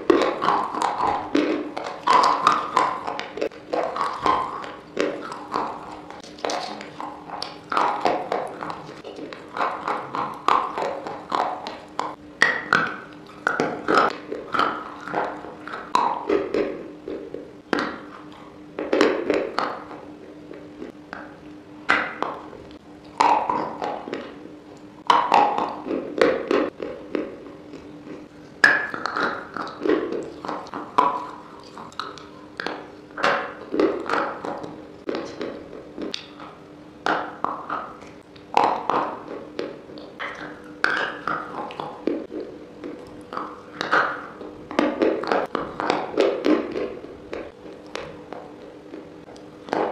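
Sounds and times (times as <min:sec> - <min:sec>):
crunching of brittle sticks being chewed: 0:00.0 - 0:49.9
faint steady hum: 0:00.0 - 0:49.9.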